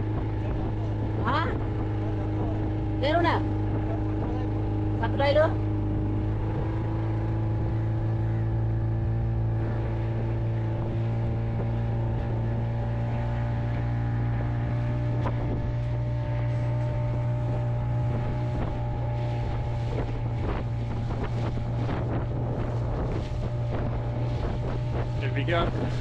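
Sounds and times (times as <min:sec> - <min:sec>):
boat knocking on waves: 0:00.0 - 0:26.0
boat motor running: 0:00.0 - 0:26.0
wind on microphone: 0:00.0 - 0:26.0.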